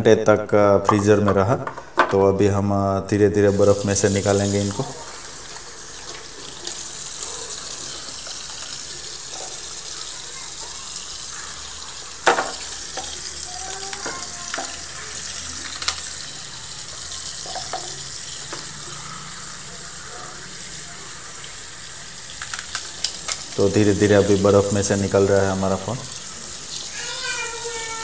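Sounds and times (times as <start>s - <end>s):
tap water running onto ice: 3.5s - 28.0s.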